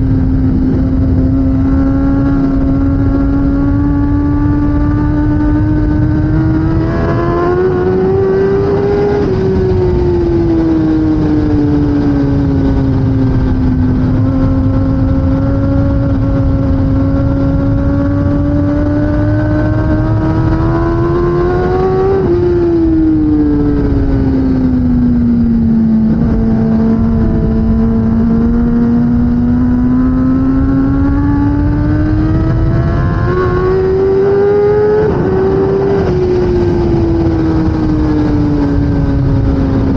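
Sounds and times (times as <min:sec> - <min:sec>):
low rumble: 0:00.0 - 0:39.9
motorcycle engine running hard: 0:00.0 - 0:39.9.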